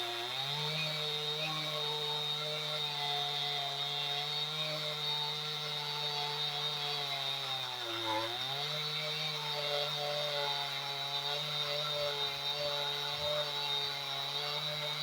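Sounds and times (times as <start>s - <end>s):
chainsaw cutting through log: 0.0s - 15.0s.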